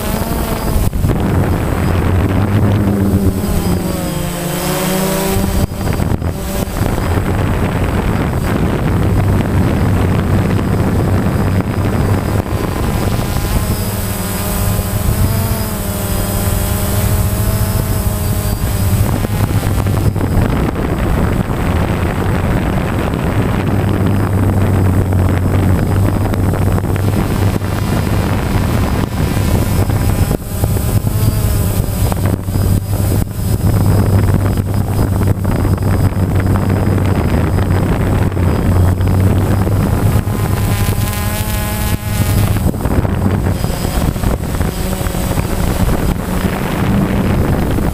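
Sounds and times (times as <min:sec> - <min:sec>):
drone rotors buzzing: 0:00.0 - 0:47.9.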